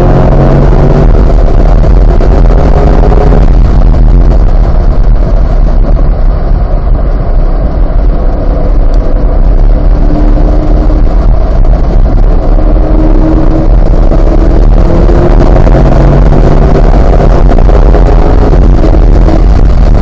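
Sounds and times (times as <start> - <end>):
car engine running hard: 0.0 - 20.0
wind and road rumble: 0.0 - 20.0.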